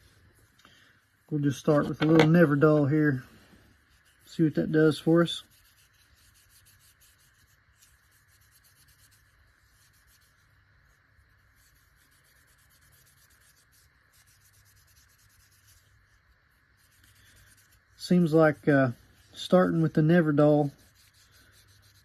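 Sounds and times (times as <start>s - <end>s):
steady low hiss: 0.0s - 22.0s
rapid rubbing on a knife: 1.4s - 22.0s.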